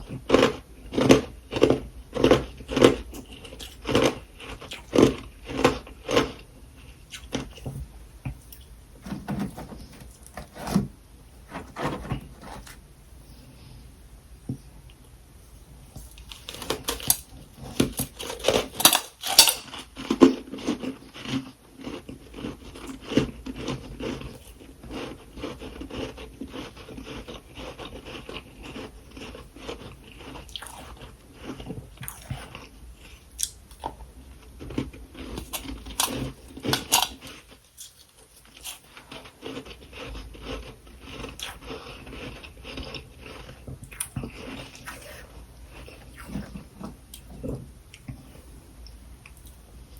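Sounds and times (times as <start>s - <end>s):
person chewing crunchy frost: 0.0s - 10.8s, 16.0s - 48.6s.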